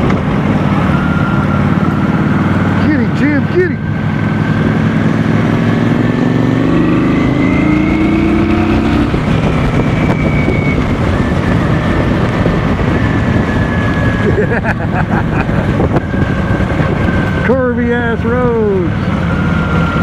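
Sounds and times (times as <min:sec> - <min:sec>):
motorcycle engine: 0:00.0 - 0:20.0
riding wind noise: 0:00.0 - 0:20.0.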